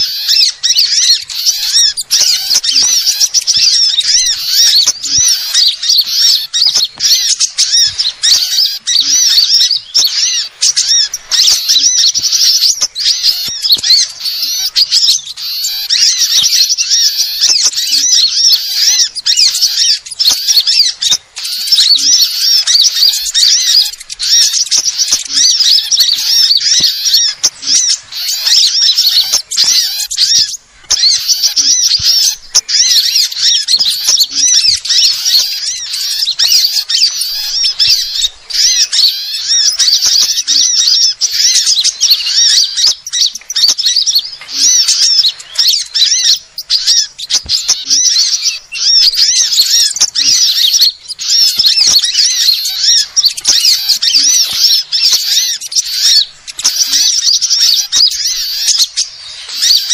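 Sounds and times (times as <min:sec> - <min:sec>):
small birds chirping and twittering: 0:00.0 - 0:59.9.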